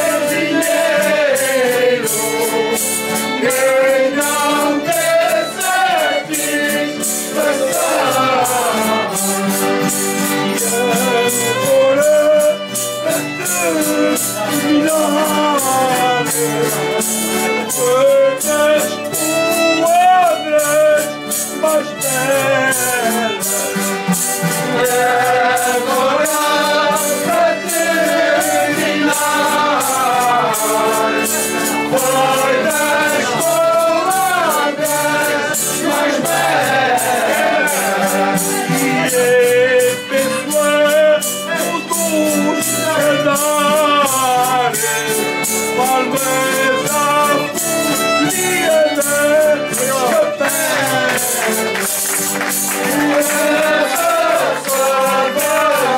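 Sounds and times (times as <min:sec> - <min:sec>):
group singing folk song: 0:00.0 - 0:55.9
jingling tambourines: 0:00.0 - 0:55.9.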